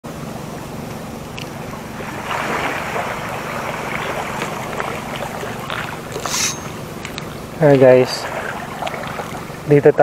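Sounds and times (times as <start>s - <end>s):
water washing along shore: 0.2s - 10.0s.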